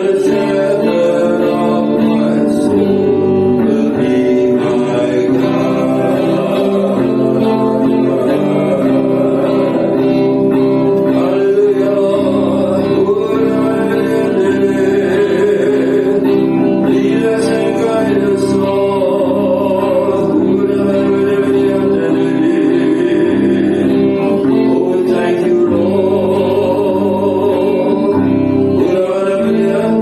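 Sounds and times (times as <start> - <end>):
guitar accompaniment: 0.0 - 30.0
person singing worship song: 0.0 - 30.0.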